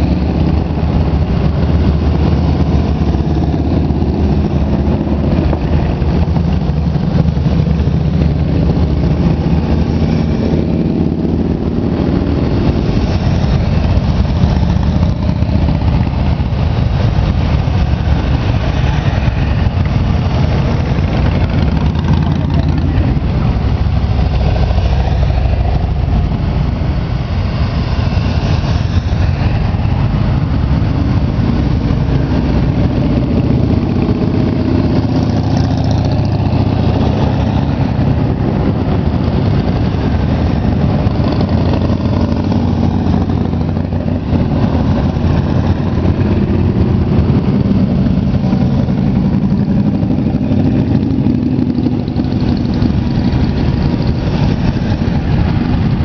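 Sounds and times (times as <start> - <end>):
motorcycles passing: 0.0 - 56.0.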